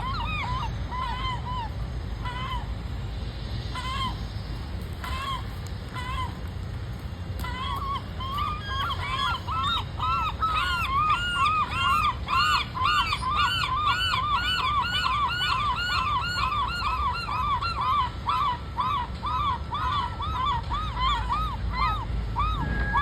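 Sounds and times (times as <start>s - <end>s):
gulls calling: 0.0s - 23.0s
low steady rumble: 0.0s - 23.0s.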